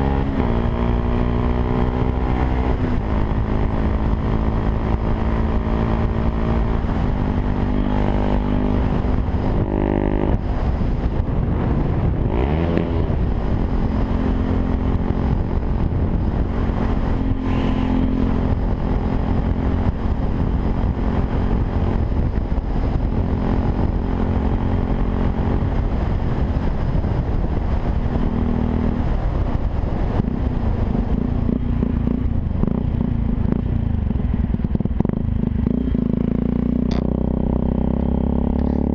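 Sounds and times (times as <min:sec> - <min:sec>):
motorcycle engine revving: 0:00.0 - 0:38.9
wind noise on microphone: 0:00.0 - 0:38.9.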